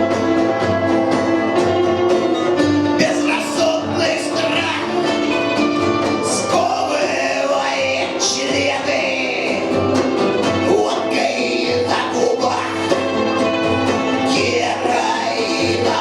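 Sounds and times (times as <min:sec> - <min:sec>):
punk rock band playing live: 0:00.0 - 0:16.0
person singing: 0:02.9 - 0:16.0.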